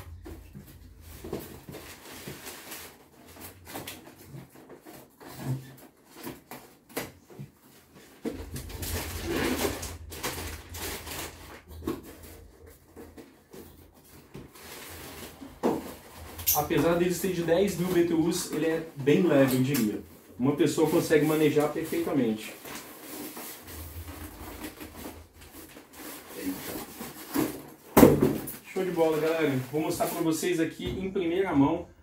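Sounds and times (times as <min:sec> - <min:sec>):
plastic wrapping rustling: 0:00.0 - 0:31.1.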